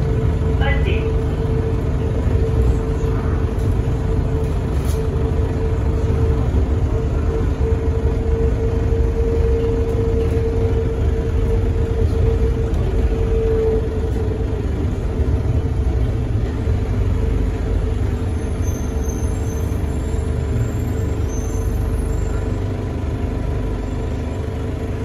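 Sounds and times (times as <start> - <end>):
constant hum: 0.0 - 25.0
train rumbling on rubber tyres: 0.0 - 25.0.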